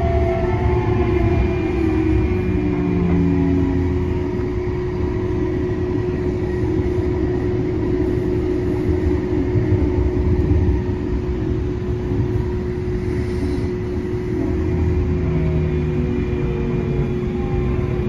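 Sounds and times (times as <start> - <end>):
constant hum: 0.0 - 18.0
rumble of wheels on track: 0.0 - 18.0.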